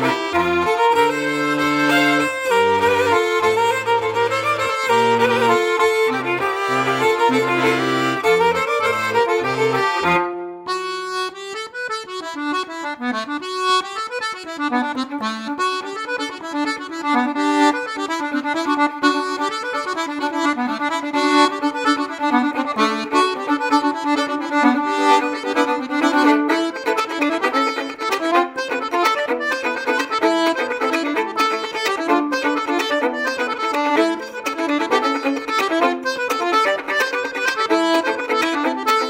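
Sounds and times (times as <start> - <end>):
accordion folk tune: 0.0 - 39.0.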